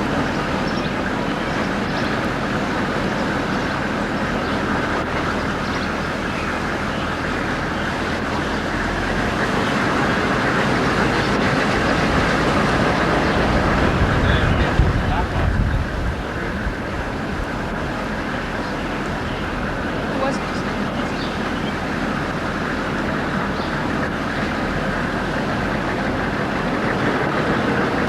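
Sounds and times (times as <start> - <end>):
moving vehicle rumbling: 0.0 - 28.0.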